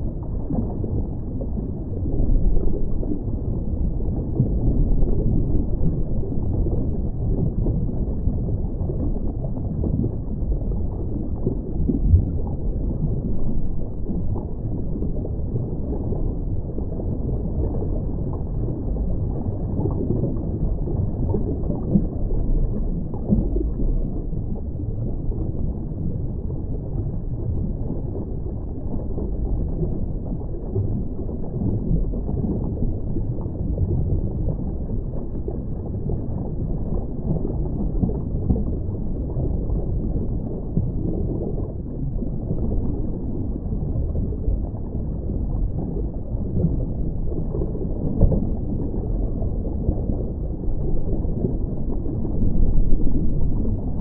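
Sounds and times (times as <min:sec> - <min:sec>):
muffled water sloshing: 0:00.0 - 0:54.0.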